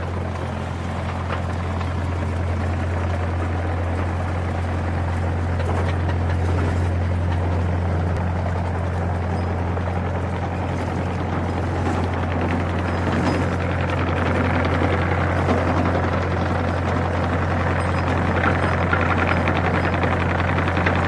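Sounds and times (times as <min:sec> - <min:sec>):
excavator diesel engine humming: 0:00.0 - 0:21.0.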